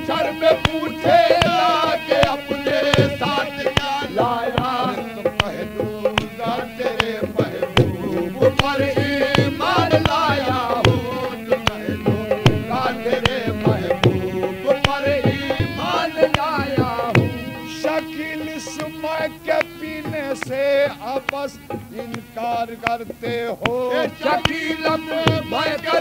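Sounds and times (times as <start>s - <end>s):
tabla rhythm: 0.0s - 26.0s.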